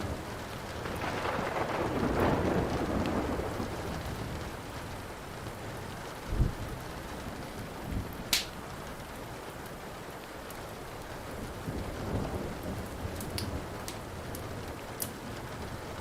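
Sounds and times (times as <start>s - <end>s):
low roll of thunder: 0.0s - 8.4s, 11.2s - 16.0s
steady rain: 0.0s - 16.0s
wood fire crackling: 0.0s - 16.0s.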